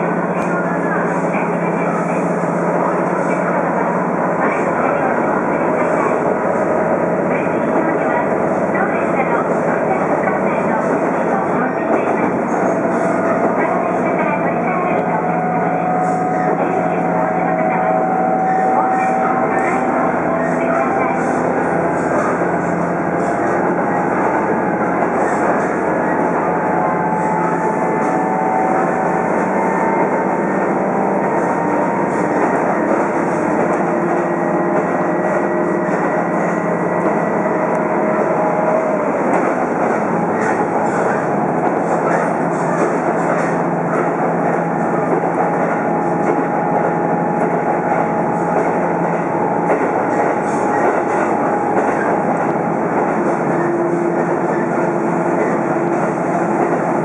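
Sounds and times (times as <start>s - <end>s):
train engine and wheels rumbling: 0.0s - 57.0s.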